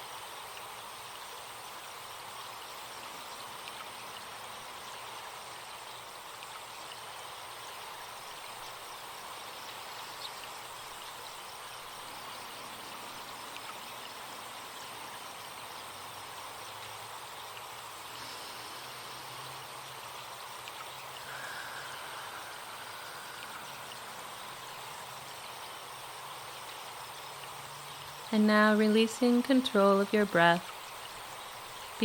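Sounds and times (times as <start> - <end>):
faint chirps: 0.0 - 32.0
high insect buzz: 0.0 - 32.0
stream flowing: 0.0 - 32.0.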